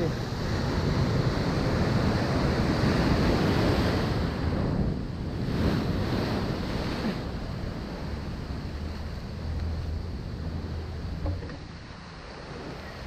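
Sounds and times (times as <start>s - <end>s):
ocean surf washing on beach: 0.0s - 13.0s
wind rumbling on microphone: 0.0s - 13.0s.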